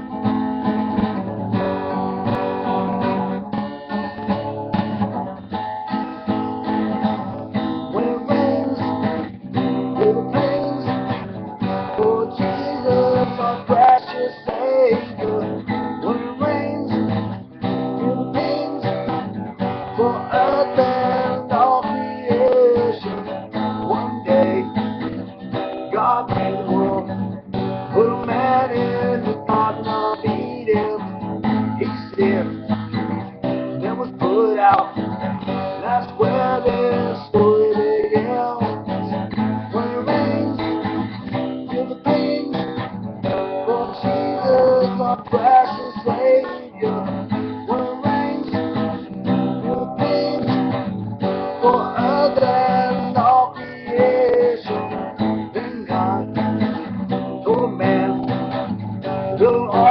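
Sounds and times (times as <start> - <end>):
acoustic guitar strumming: 0.0 - 59.9
sliding guitar melody: 0.0 - 59.9.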